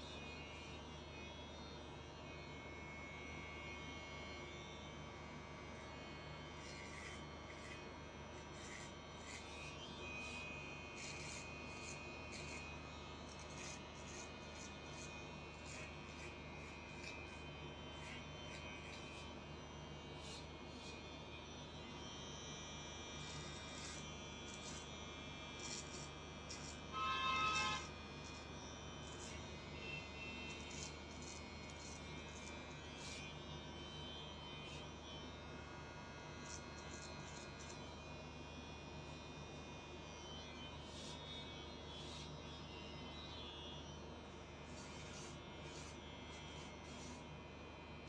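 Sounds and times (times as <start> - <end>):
electric hair clippers running: 0.0 - 48.0.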